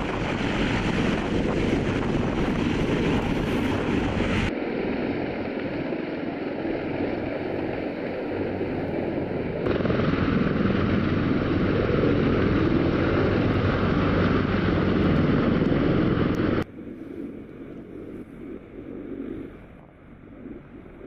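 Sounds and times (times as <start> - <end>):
helicopter rotor roar: 0.0 - 21.0.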